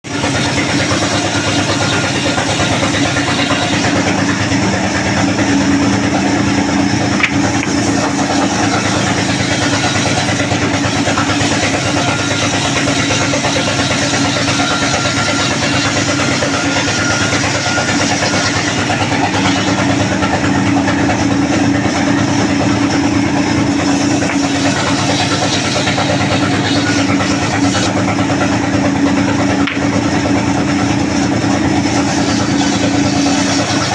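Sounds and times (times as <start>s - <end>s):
sawmill machinery droning: 0.0s - 33.9s.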